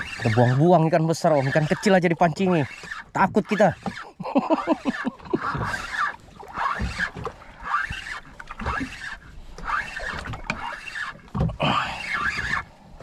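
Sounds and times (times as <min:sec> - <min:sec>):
fishing reel gears whirring: 0:00.0 - 0:12.8.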